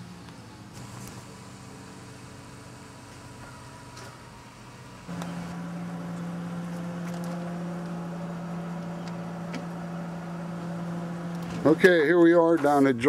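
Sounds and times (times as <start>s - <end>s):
low mechanical hum: 0.0s - 12.8s.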